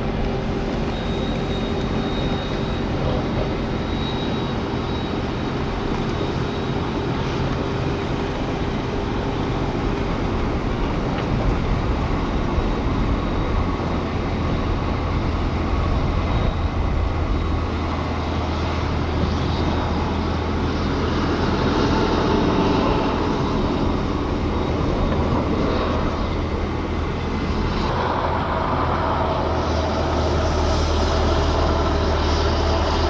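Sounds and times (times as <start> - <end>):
car engine drone inside car: 0.0 - 33.0.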